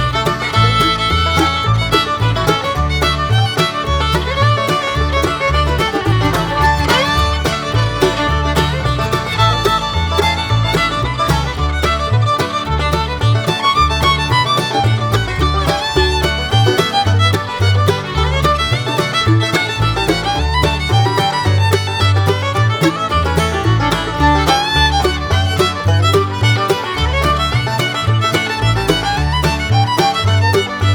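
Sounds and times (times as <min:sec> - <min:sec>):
fast bluegrass music: 0:00.0 - 0:30.9
fiddle playing: 0:00.0 - 0:30.9.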